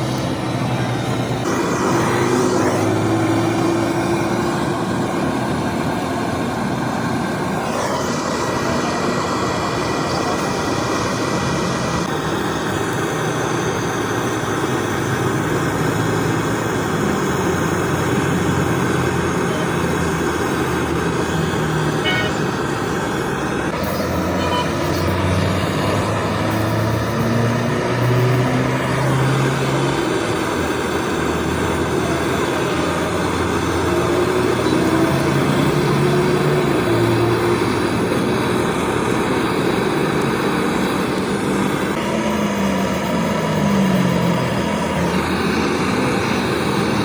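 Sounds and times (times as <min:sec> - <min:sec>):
road traffic noise: 0:00.0 - 0:47.0.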